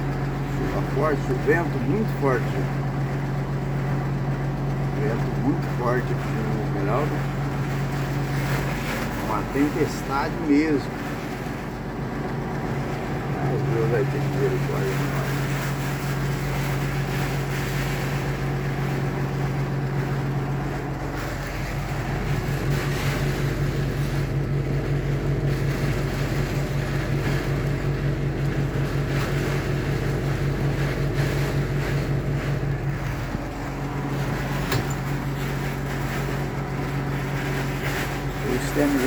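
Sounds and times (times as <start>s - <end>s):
engine pulsing hum: 0.0s - 39.0s
wind: 0.0s - 39.0s.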